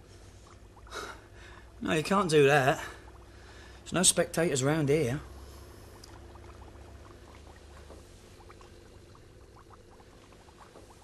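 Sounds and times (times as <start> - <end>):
low steady hum: 0.0 - 11.0
water bubbling in glass bowl: 0.0 - 11.0.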